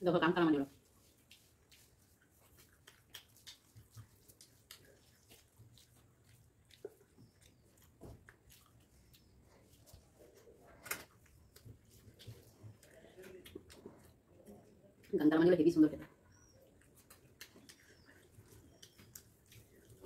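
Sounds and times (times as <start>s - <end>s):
chewing and lip smacks: 0.7s - 15.2s, 16.0s - 20.0s.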